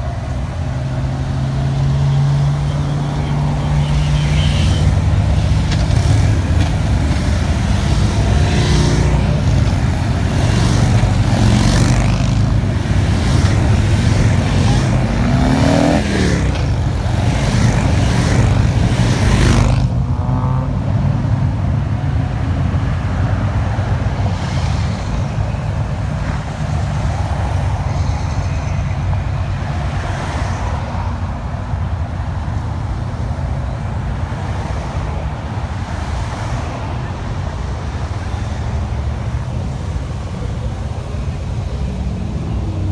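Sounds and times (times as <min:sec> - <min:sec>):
road traffic: 0:00.0 - 0:42.9.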